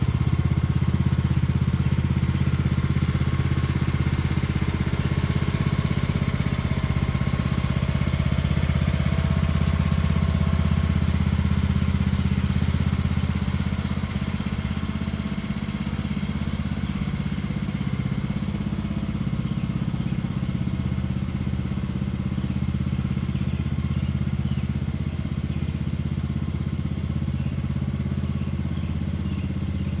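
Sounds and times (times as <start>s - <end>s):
lawn tractor engine mowing: 0.0s - 30.0s.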